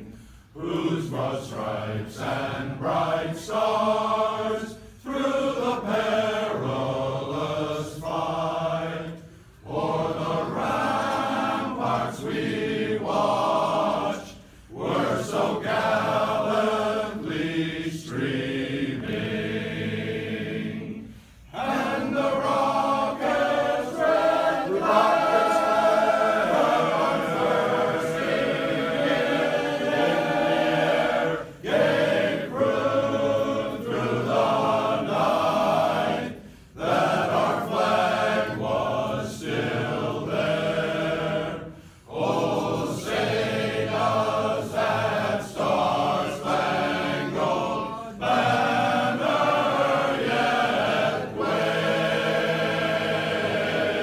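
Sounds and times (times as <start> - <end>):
men's chorus singing unaccompanied: 0.0 - 54.0.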